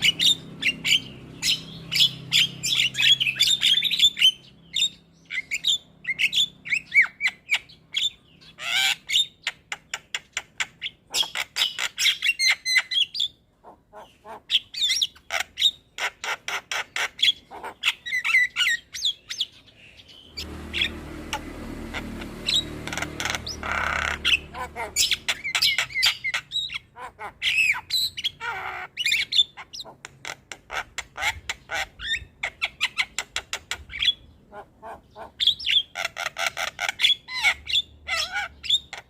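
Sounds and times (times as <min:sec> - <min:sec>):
bird calling and singing: 0:00.0 - 0:39.0.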